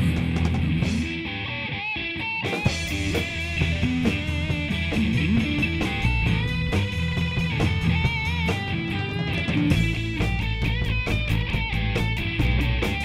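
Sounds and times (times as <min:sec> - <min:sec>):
drum kit: 0:00.0 - 0:01.5, 0:02.2 - 0:13.0
bass guitar: 0:00.0 - 0:13.0
electric guitar lines: 0:00.0 - 0:13.0.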